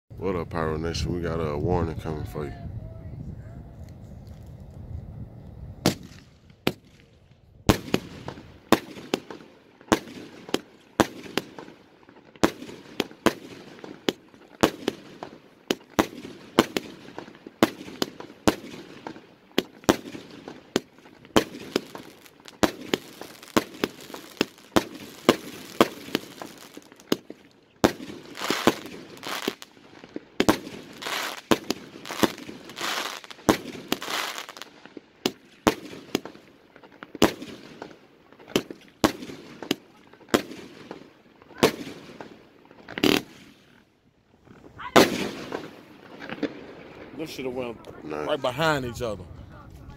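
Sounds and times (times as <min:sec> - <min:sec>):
firework shots and aerial bursts: 0:03.9 - 0:49.9.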